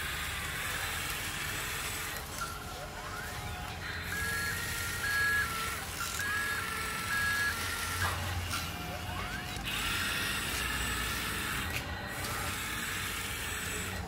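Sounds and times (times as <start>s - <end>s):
toy excavator motors whining: 0.0s - 14.0s.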